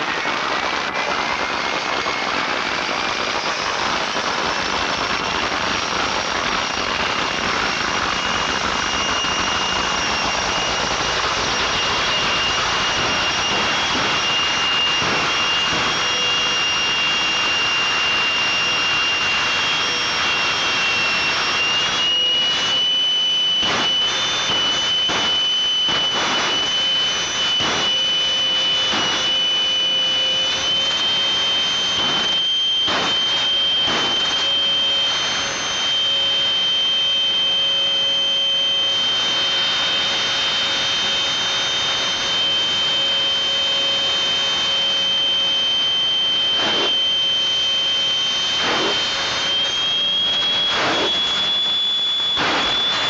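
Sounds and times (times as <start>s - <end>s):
jet turbine roaring and whining: 0.0s - 53.0s.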